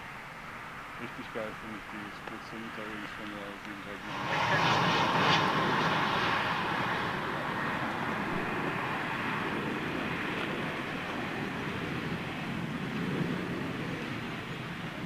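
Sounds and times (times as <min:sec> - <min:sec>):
jet engines passing: 0:00.3 - 0:15.0.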